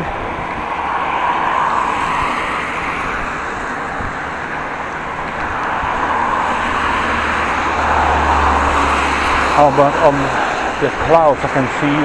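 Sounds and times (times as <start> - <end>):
car traffic rushing: 0.0 - 12.0
wind rumble on microphone: 0.0 - 12.0.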